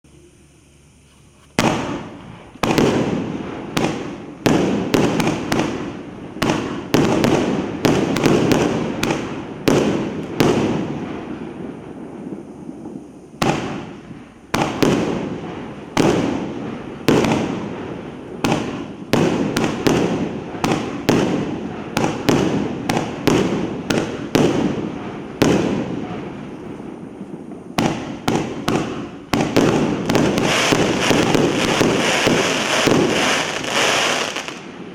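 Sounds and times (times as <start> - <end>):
firework cake shots and bursts: 1.5 - 11.4, 13.2 - 26.6, 27.3 - 34.9.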